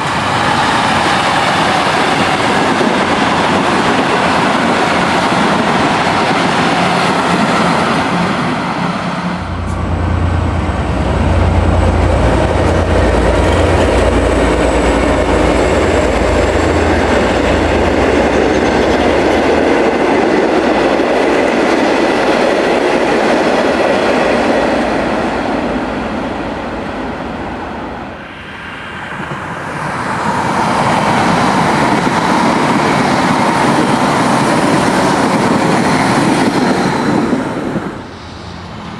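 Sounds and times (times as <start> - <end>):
diesel locomotive engine drone: 0.0 - 38.9
electric train passing: 0.0 - 38.9
rail noise and wheel clatter: 0.0 - 38.9.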